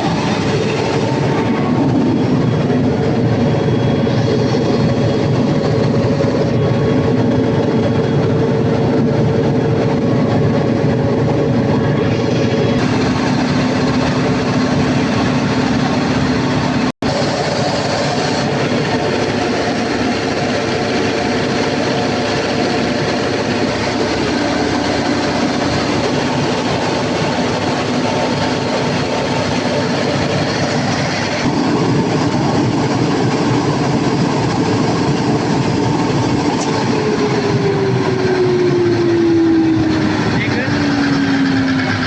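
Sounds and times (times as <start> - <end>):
diesel generator running: 0.0 - 42.0.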